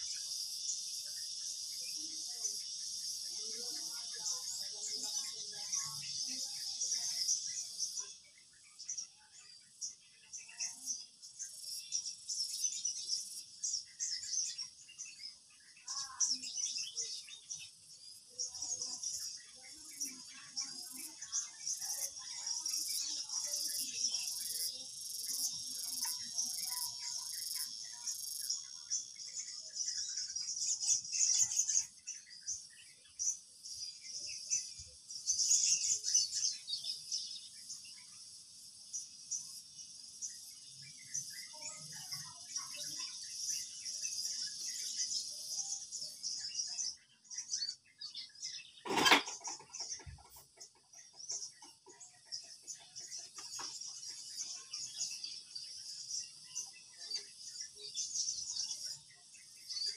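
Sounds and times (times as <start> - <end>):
faint chirps: 0.0 - 59.9
insects chorus: 0.0 - 59.9.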